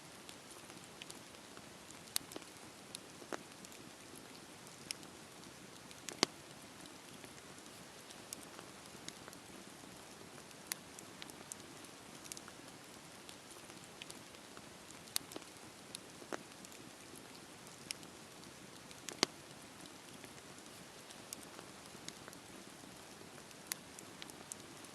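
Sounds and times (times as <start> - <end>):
burning wood crackling and popping: 0.2 - 24.9.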